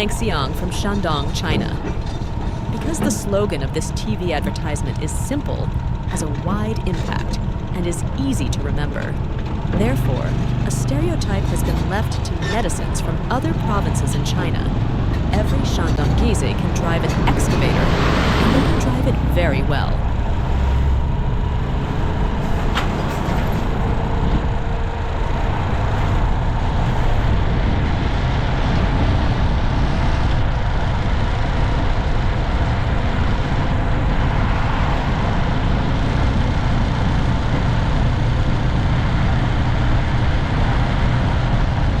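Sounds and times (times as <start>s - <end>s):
heavy engine low rumble: 0.0s - 42.0s.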